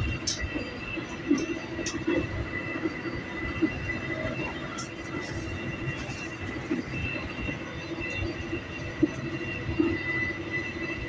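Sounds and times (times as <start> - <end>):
train carriage rumble and rattle: 0.0 - 11.0.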